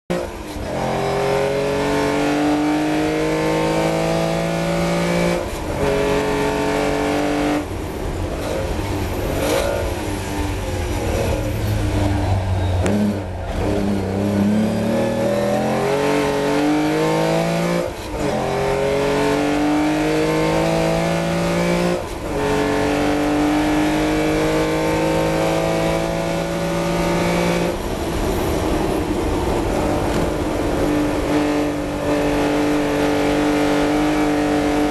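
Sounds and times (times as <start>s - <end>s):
racing car engine revving: 0.1s - 7.7s, 8.4s - 34.9s.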